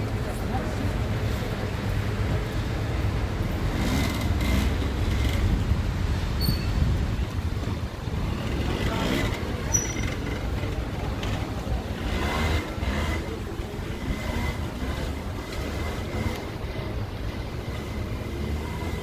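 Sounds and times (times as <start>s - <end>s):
faint voices of passers-by: 0.0s - 19.0s.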